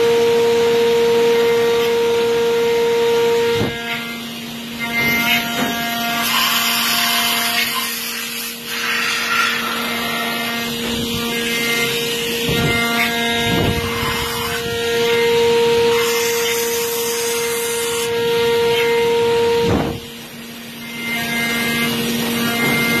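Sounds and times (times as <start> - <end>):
milling machine spindle whine: 0.0 - 23.0
cutting noise: 3.6 - 20.1, 20.8 - 23.0.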